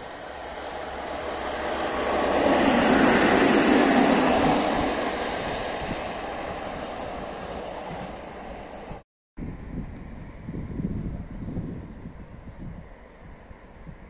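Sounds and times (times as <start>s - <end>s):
freight train passing: 0.0s - 13.6s.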